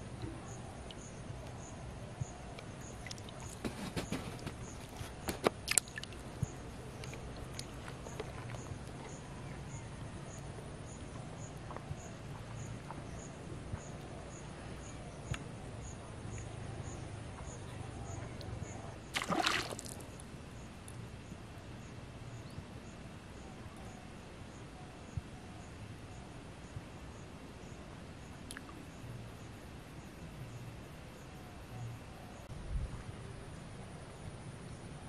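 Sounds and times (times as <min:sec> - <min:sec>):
faint high insect chirp: 0:00.0 - 0:35.0.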